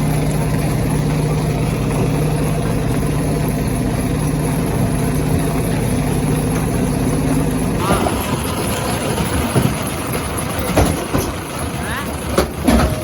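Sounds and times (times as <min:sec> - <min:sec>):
stone crusher machinery drone: 0:00.0 - 0:13.0.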